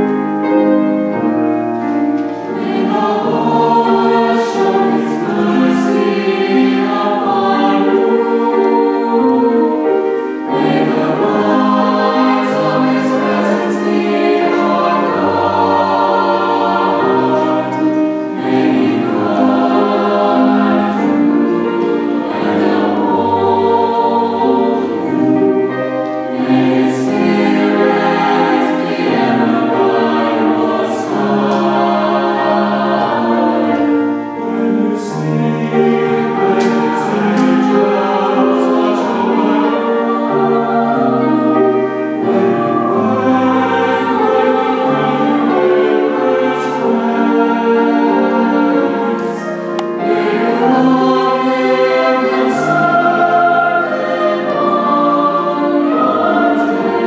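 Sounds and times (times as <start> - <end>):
choir singing in harmony: 0.0 - 57.0.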